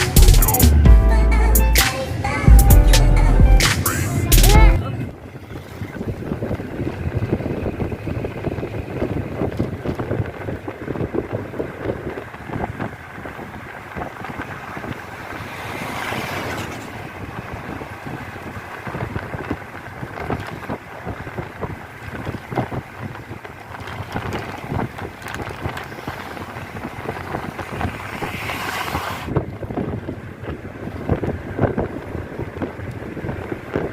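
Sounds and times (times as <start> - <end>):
vehicle running: 0.0 - 33.9
wind buffeting microphone: 3.4 - 33.9.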